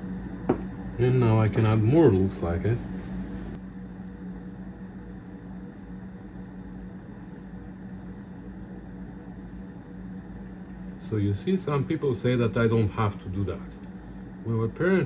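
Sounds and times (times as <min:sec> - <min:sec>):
machine hum with hiss: 0:00.0 - 0:15.0.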